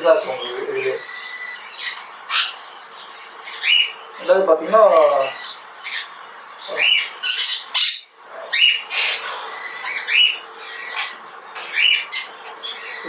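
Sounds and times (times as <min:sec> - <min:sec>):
parrots squawking and screeching: 0:00.0 - 0:13.0.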